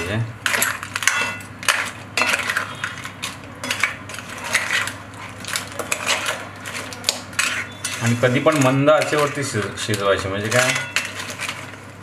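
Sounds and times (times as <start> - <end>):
spoon scraping and clinking in pot: 0.4 - 11.8.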